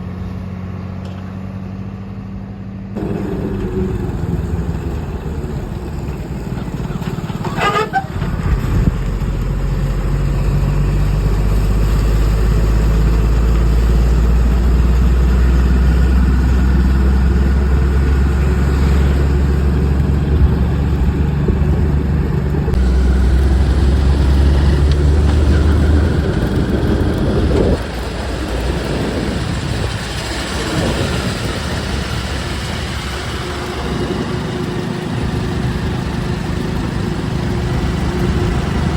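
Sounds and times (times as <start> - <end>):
heavy diesel engines running: 0.0 - 38.9.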